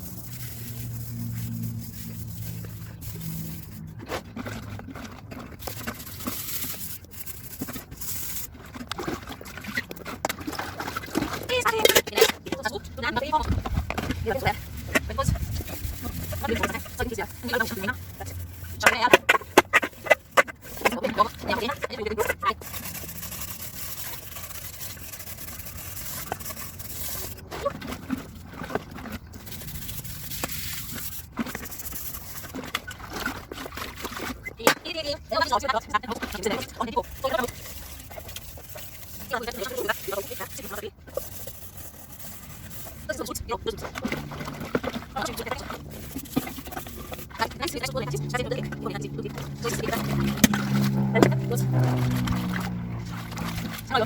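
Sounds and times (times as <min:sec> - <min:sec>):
steel wool scrubbing a saucepan: 0:00.0 - 0:54.0.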